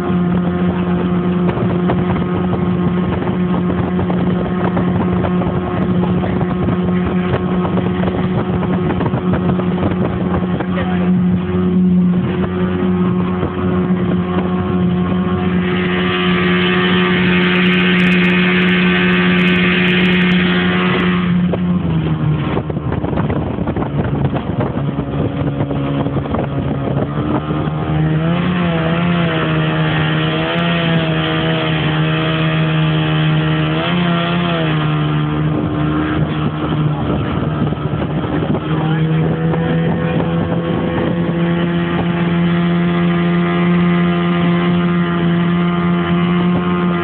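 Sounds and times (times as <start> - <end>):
outboard motor running: 0.0 - 47.0.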